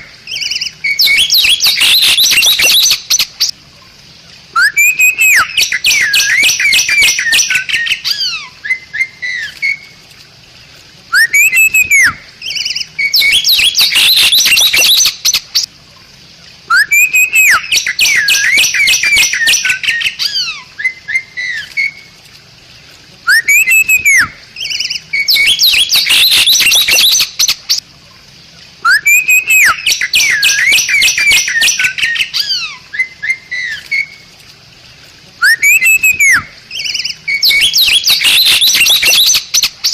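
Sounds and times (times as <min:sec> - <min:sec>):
bird whistling and chattering: 0:00.3 - 0:03.5, 0:04.6 - 0:09.8, 0:11.1 - 0:15.7, 0:16.7 - 0:22.0, 0:23.3 - 0:27.8, 0:28.8 - 0:34.1, 0:35.4 - 0:39.9.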